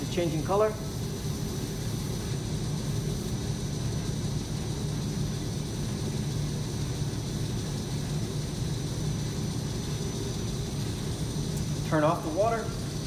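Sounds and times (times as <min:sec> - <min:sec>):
lathe motor humming: 0:00.0 - 0:13.0.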